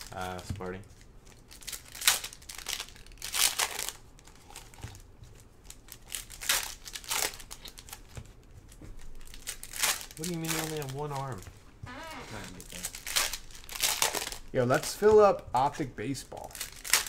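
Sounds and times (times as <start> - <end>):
foil wrappers crinkling and tearing: 0.0 - 11.5, 12.1 - 17.0.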